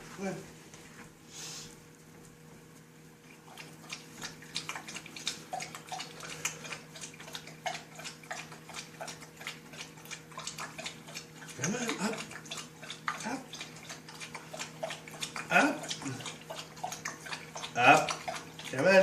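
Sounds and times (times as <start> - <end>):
dog lapping water: 3.2 - 19.0.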